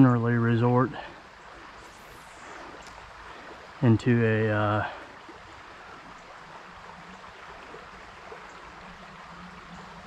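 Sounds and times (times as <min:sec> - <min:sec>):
stream flowing: 0:00.0 - 0:10.0.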